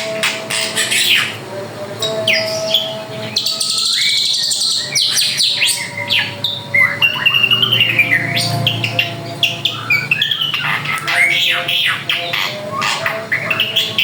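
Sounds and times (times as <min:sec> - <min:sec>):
buzzy bird trill: 0:00.0 - 0:01.4, 0:02.0 - 0:14.0.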